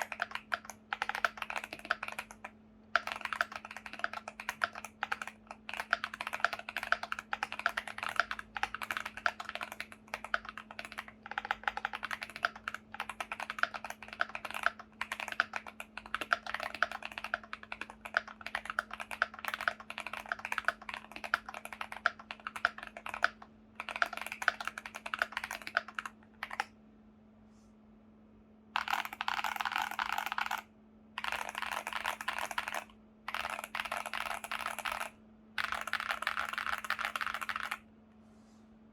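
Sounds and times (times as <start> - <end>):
mechanical keyboard typing: 0.0 - 26.7, 28.8 - 37.8.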